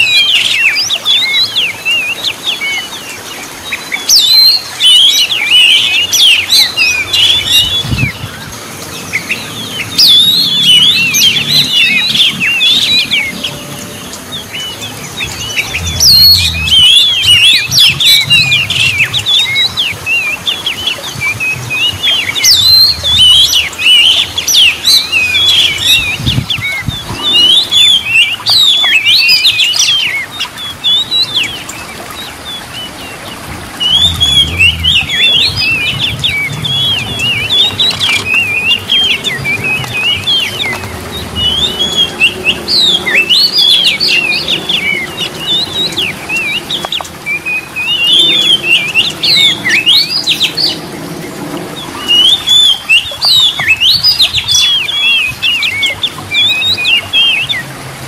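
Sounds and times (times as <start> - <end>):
bird singing whistled phrases: 9.2 - 33.2, 33.8 - 50.8, 51.8 - 57.7.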